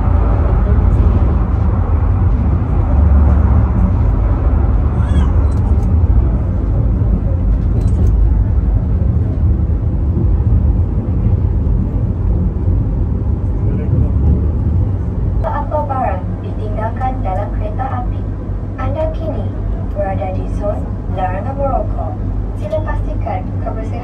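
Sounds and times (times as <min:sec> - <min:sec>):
funicular car rumbling on rails: 0:00.0 - 0:24.0.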